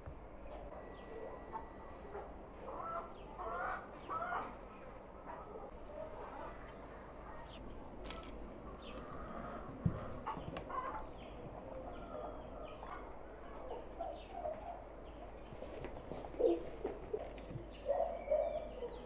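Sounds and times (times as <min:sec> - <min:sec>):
chickens clucking: 0:00.5 - 0:19.0.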